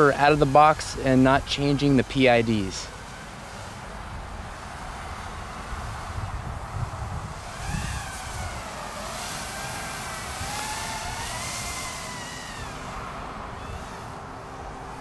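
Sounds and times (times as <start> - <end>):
drone motors whining: 0.0 - 15.0
propeller hiss: 0.0 - 15.0.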